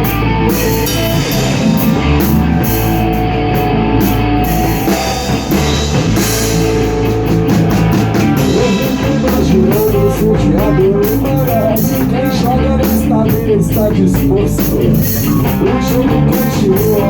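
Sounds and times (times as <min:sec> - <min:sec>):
bass guitar: 0:00.0 - 0:17.0
drum kit with cymbal hits: 0:00.0 - 0:17.0
electric guitar: 0:00.0 - 0:17.0.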